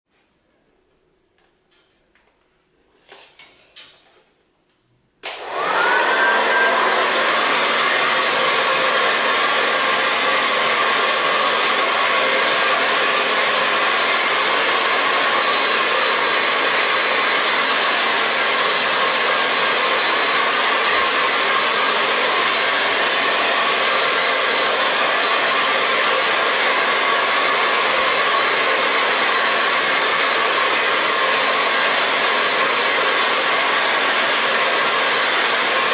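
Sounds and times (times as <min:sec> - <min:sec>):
hair dryer running: 0:05.2 - 0:35.9.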